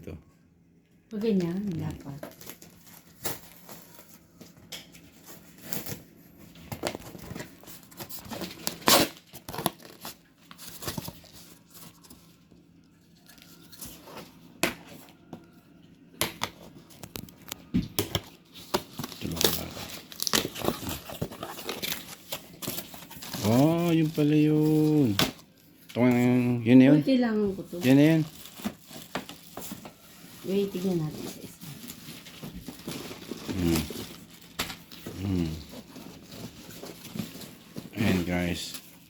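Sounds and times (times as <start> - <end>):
packaging tearing and crinkling: 1.8 - 4.2, 5.0 - 12.4, 16.3 - 26.5, 27.6 - 39.0.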